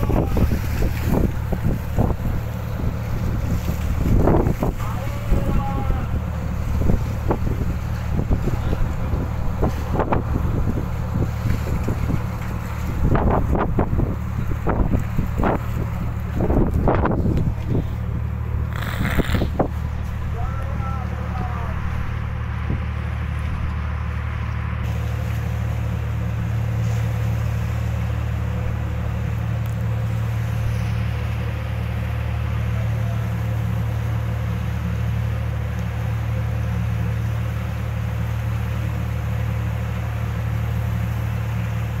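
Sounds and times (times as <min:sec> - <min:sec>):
boat engine humming: 0:00.0 - 0:42.0
wind and water hiss: 0:00.0 - 0:42.0.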